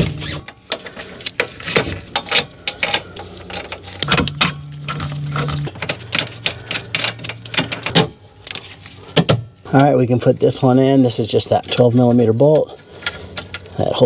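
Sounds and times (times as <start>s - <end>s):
metal parts clinking and knocking: 0.0s - 9.9s, 11.2s - 14.0s
low steady hum: 0.0s - 14.0s.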